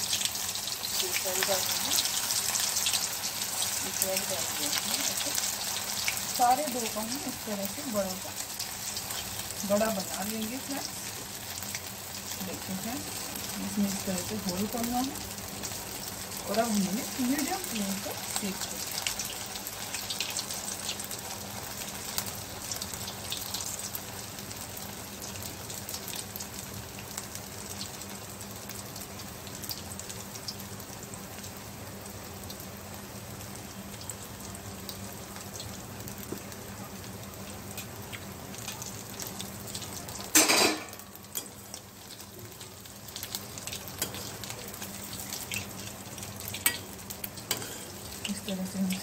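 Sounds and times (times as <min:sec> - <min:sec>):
food deep-frying in oil: 0:00.0 - 0:49.0.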